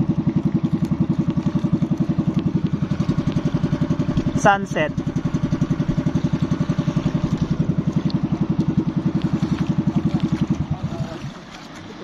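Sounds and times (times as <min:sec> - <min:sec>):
boat engine puttering: 0:00.0 - 0:12.0
quiet water wash: 0:00.0 - 0:12.0.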